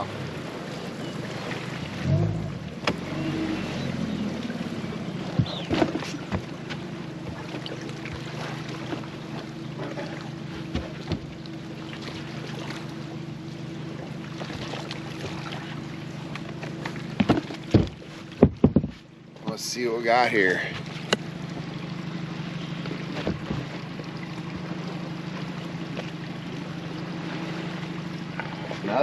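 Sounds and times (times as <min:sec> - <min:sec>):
boat motor idling: 0:00.0 - 0:29.0.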